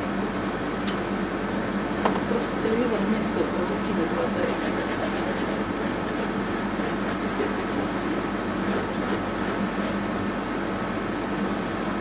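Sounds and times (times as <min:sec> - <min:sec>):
room noise hum: 0:00.0 - 0:12.0.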